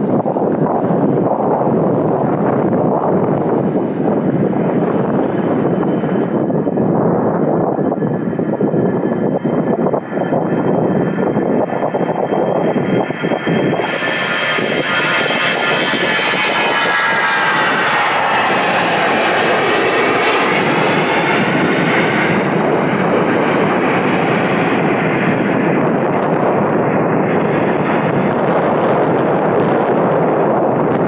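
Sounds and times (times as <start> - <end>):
jet airliner taking off: 0.0 - 31.0.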